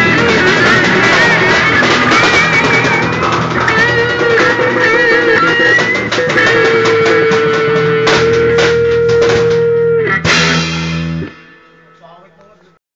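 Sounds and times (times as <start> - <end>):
drum hits: 0.0 - 12.0
rock band playing: 0.0 - 12.7.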